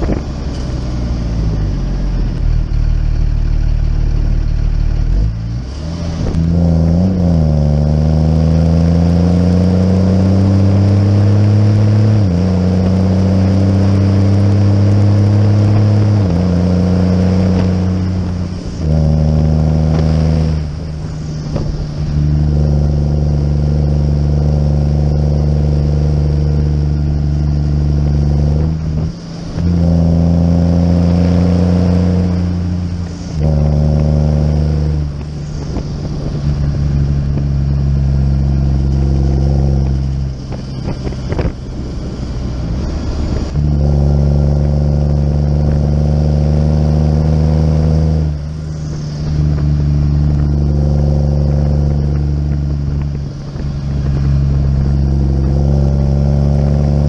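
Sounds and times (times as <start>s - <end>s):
tractor engine: 0.0s - 57.0s.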